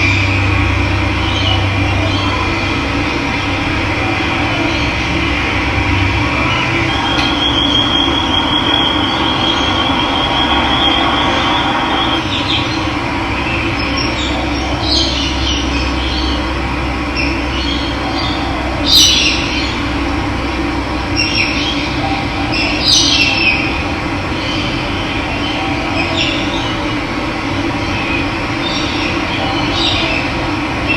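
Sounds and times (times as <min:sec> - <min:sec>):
birds trilling and chirping: 0:00.0 - 0:30.9.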